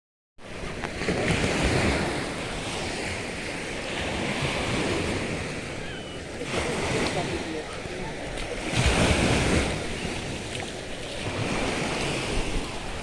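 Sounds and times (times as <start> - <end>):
sea surf washing onto shore: 0.4 - 13.0
wind buffeting microphone: 0.6 - 13.0.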